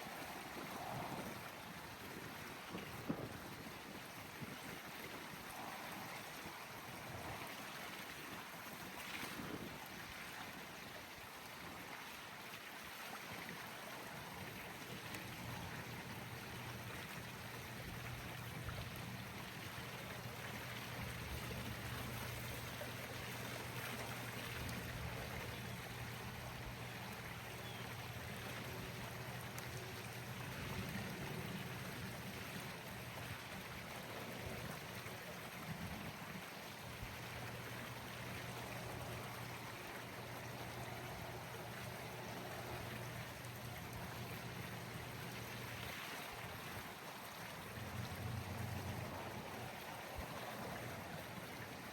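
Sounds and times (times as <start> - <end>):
flowing water rushing: 0.0 - 51.9.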